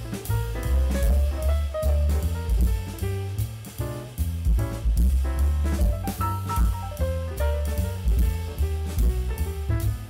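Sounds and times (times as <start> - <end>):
jazz music with drums and bass: 0.0 - 10.0.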